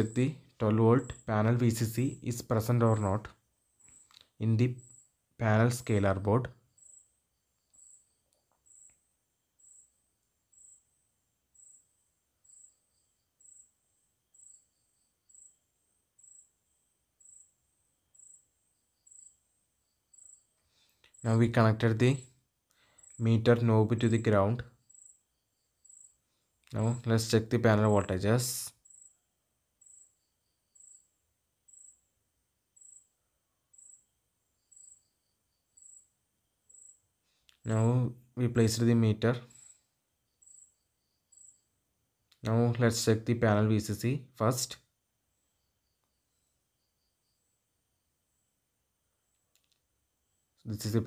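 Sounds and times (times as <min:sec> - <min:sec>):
insect-like chirping: 0:00.0 - 0:21.6, 0:22.7 - 0:27.4, 0:28.0 - 0:38.1, 0:39.4 - 0:42.7, 0:44.8 - 0:51.0.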